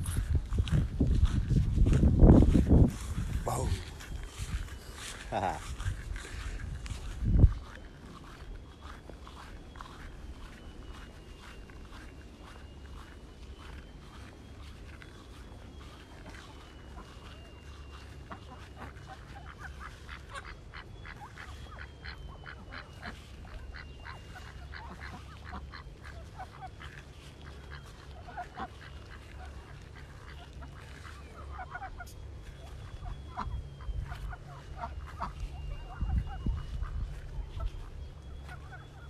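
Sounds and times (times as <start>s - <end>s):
poultry honking and calling: 2.3s - 39.0s.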